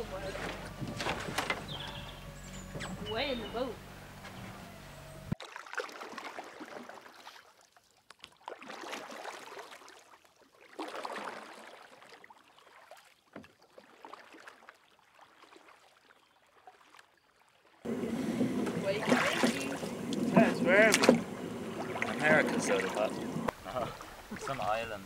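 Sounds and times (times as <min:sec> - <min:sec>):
oars splashing in water: 0:00.0 - 0:25.0.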